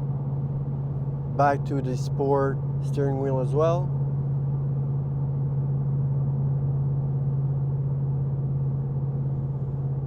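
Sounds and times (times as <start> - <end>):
car engine running inside cabin: 0.0 - 5.6, 6.2 - 10.0.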